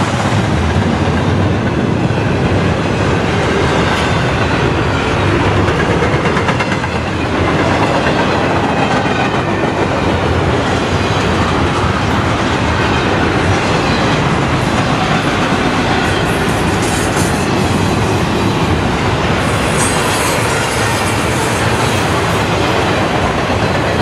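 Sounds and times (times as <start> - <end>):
clickety-clack of rail joints: 0.0 - 24.0
train wheels rumbling on rail: 0.0 - 24.0.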